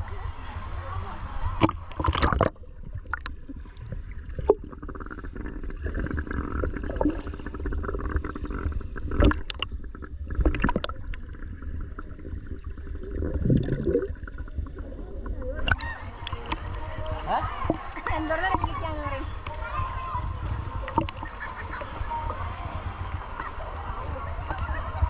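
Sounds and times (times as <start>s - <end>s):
pool water sloshing and gurgling: 0.0s - 25.0s
steady low rumble: 0.0s - 25.0s.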